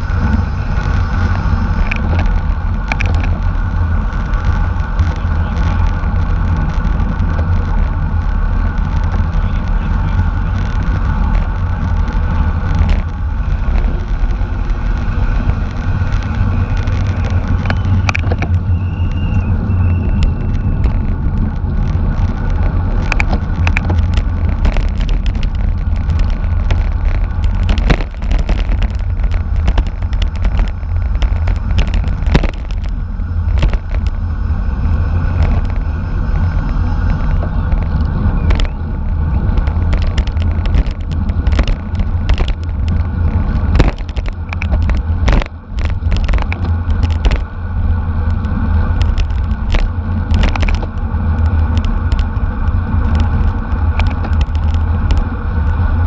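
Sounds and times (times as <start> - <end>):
high whine: 0.0 - 56.0
road rumble: 0.0 - 56.0
sharp clicks and rattles: 0.0 - 56.0
wind buffeting microphone: 0.0 - 56.0.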